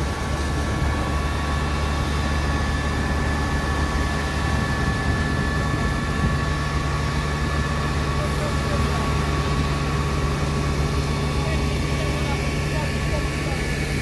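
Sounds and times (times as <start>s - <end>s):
engine low drone: 0.0s - 14.0s
pump high whine: 0.0s - 14.0s.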